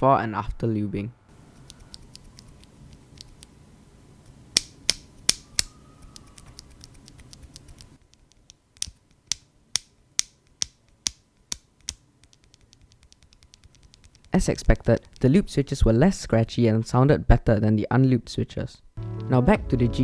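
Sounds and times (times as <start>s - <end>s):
faint background hum: 0.0s - 20.0s.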